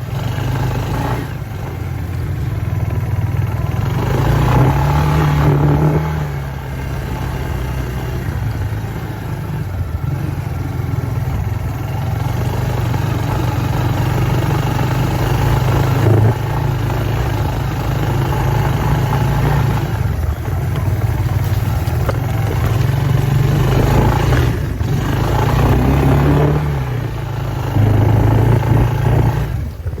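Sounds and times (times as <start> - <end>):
off-road vehicle engine revving: 0.0 - 30.0.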